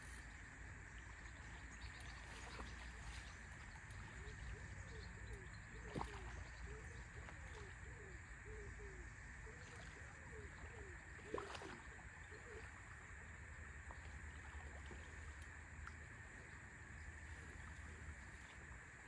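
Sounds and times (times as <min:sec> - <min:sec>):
moving water: 0:00.0 - 0:19.0
wind: 0:00.0 - 0:19.0.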